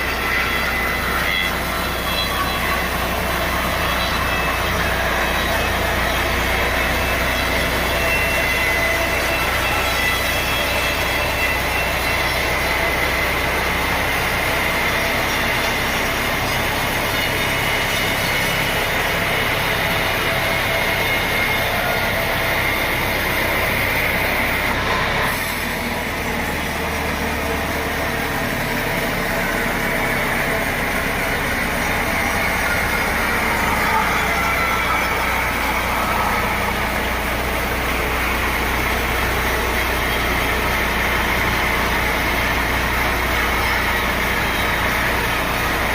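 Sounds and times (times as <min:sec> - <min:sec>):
high mechanical whine: 0:00.0 - 0:45.9
sawmill machinery running: 0:00.0 - 0:45.9.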